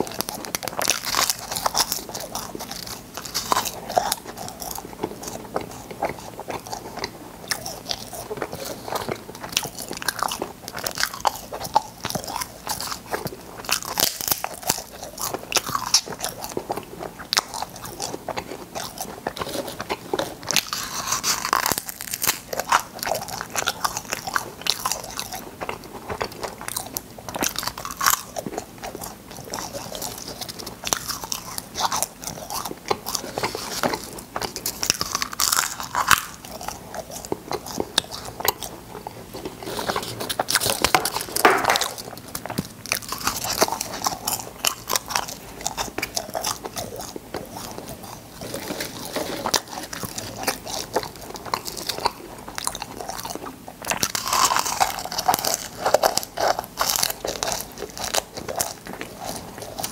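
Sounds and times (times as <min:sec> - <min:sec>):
person crunching candy: 0:00.0 - 0:59.9.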